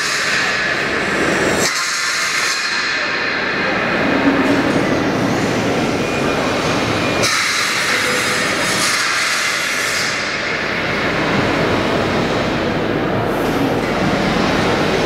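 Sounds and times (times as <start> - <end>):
exhibition hall roar: 0.0 - 15.0.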